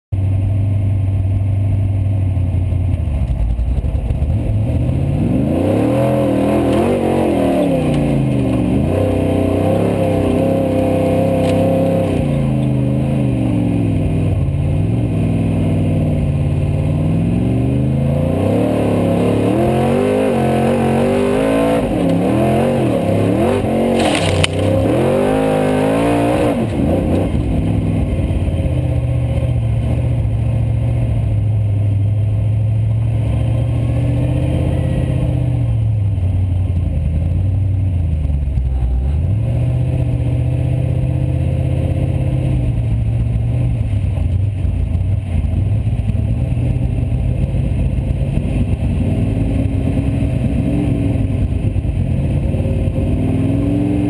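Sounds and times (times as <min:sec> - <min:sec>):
car engine revving: 0:02.6 - 0:54.0.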